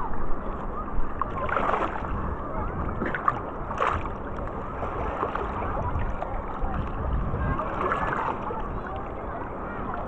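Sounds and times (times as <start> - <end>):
water sloshing and splashing: 0.0 - 10.0.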